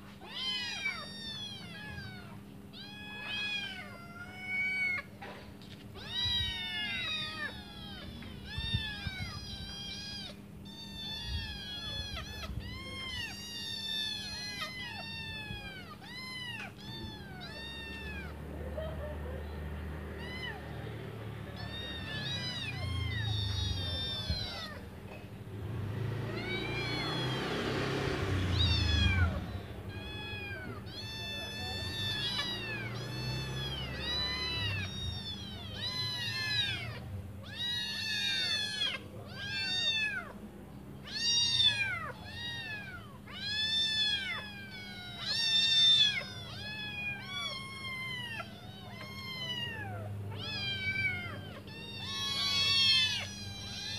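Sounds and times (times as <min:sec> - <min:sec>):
kittens meowing: 0:00.0 - 0:53.9.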